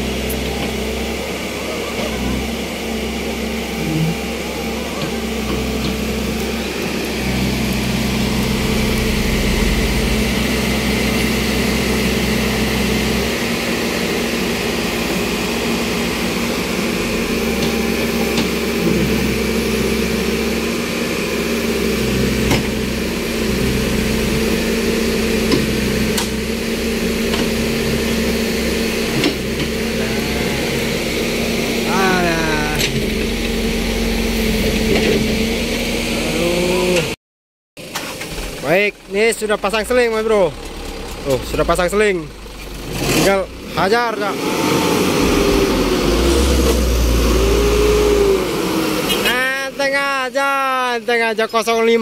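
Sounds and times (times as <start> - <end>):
backhoe and truck engines: 0.0 - 37.2, 37.8 - 52.0.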